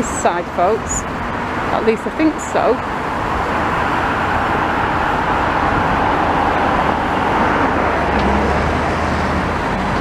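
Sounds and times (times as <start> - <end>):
road traffic noise: 0.0 - 10.0
vehicle engine hum: 0.0 - 10.0.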